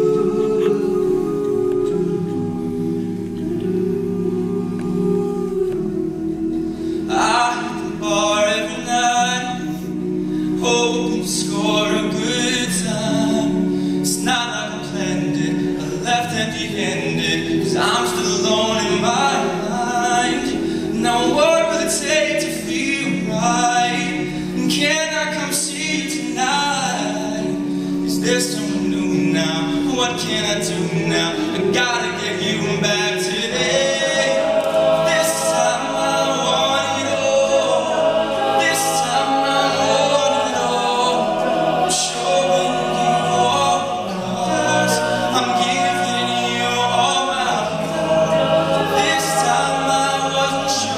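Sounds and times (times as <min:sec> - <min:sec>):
man singing lead melody: 0:00.0 - 0:50.9
men singing sustained chords: 0:00.0 - 0:50.9.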